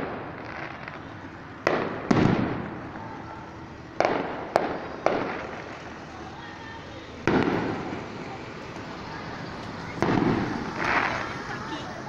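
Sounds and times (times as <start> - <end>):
fireworks bangs with echo: 0.0 - 8.4, 9.8 - 11.6.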